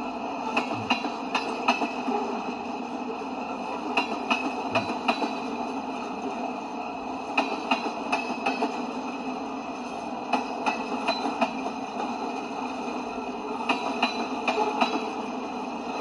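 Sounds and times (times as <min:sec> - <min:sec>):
train wheels rumbling on rail: 0:00.0 - 0:16.0
clickety-clack over rail joints: 0:00.4 - 0:06.6, 0:07.2 - 0:16.0.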